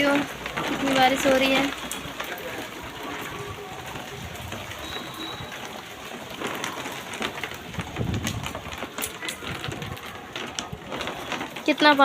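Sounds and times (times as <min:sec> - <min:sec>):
heavy rain pouring: 0:00.0 - 0:12.0
wind gusts: 0:00.0 - 0:12.0.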